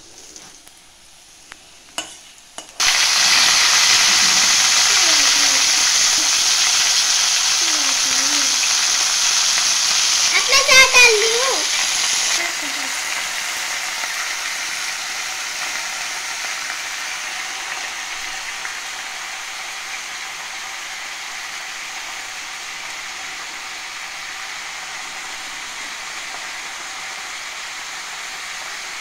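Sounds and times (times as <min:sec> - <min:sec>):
spinach sizzling in hot oil: 0:01.6 - 0:29.0.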